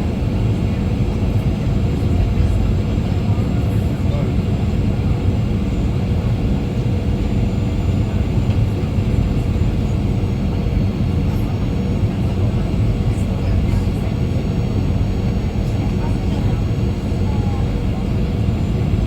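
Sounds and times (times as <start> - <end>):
jet engine cabin rumble: 0.0 - 19.0.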